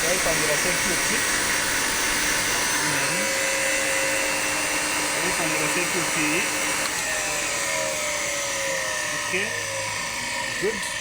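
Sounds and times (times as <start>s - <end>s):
compressor running with hiss: 0.0s - 11.0s.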